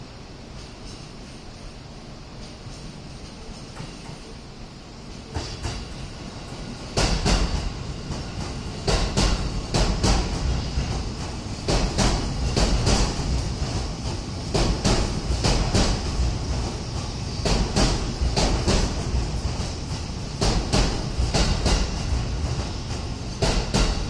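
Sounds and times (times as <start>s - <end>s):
train rumbling: 0.0s - 24.0s
train wheels clacking: 0.4s - 24.0s.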